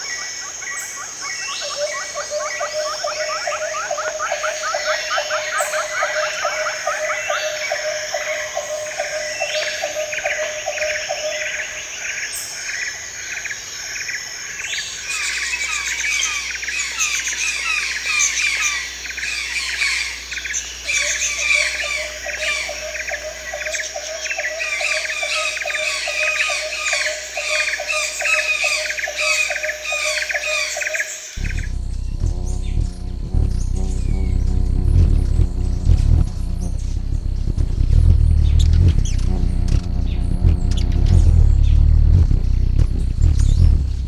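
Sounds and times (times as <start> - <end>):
low pulsing bird call: 0.0 - 12.3, 15.0 - 44.0.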